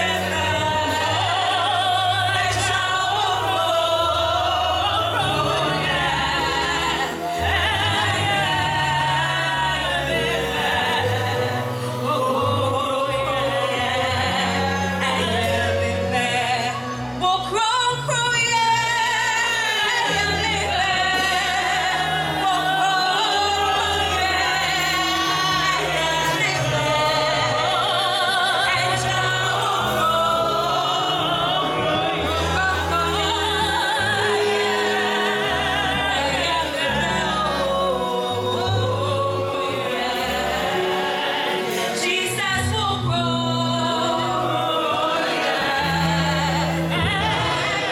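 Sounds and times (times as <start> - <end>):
gospel singing: 0.0 - 47.9.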